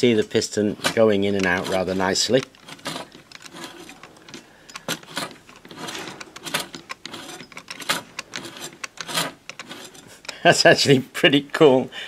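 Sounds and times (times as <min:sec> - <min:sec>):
mechanism clicking and rattling: 0:00.0 - 0:10.9.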